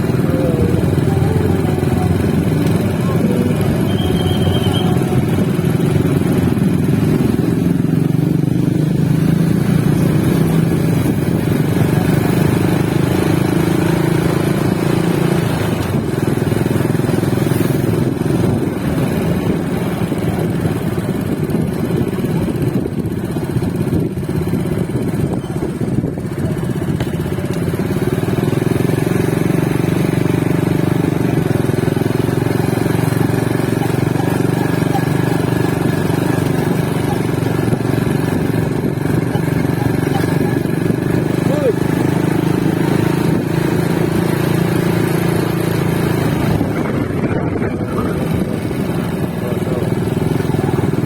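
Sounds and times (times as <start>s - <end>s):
motorcycle engines droning: 0.0s - 51.0s.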